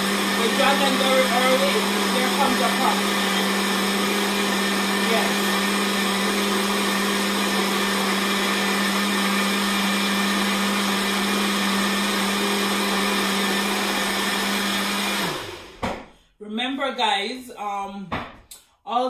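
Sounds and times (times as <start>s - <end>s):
blender running: 0.0s - 16.1s.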